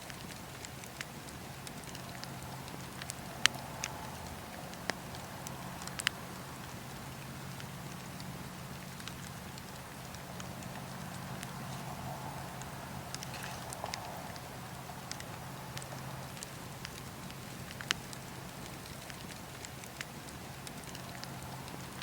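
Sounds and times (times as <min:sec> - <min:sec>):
steady low hum: 0:00.0 - 0:19.6
campfire crackling and popping: 0:00.0 - 0:22.0.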